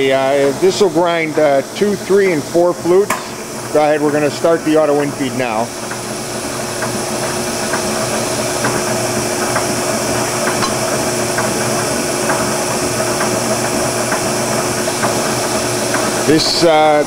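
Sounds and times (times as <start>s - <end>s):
grinding machine hum and hiss: 0.0s - 17.0s.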